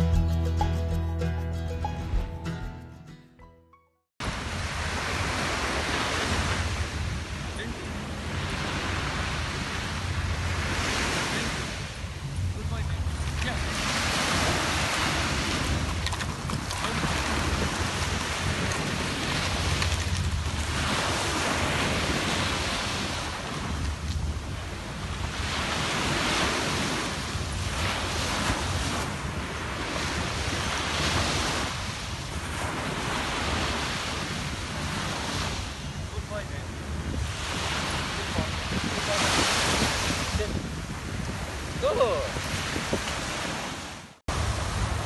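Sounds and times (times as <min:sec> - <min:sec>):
sea waves washing up shore: 0:04.2 - 0:45.0
wind rumbling on microphone: 0:04.2 - 0:45.0.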